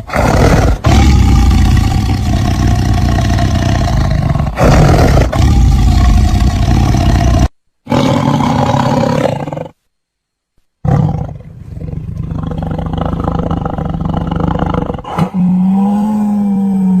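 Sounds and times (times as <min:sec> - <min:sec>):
tiger roaring and growling: 0:00.0 - 0:09.8, 0:10.8 - 0:17.0.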